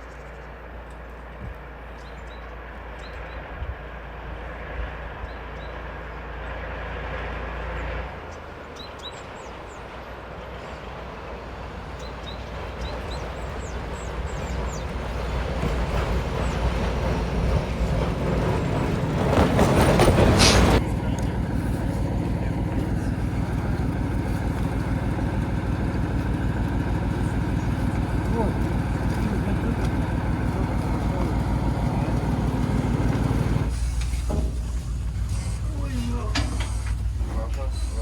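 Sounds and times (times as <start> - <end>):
train rumbling along track: 0.0 - 38.0.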